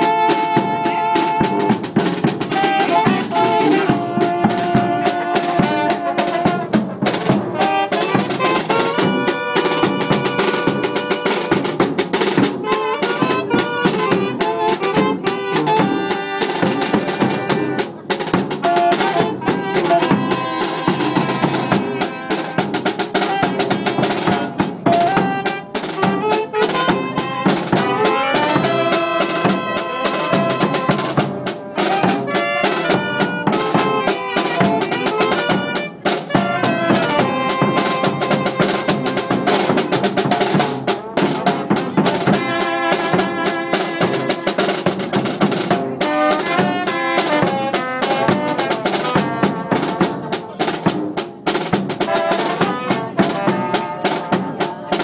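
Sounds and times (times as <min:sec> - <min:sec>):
bass drum and snare drum: 0:00.0 - 0:55.0
brass band playing live: 0:00.0 - 0:55.0.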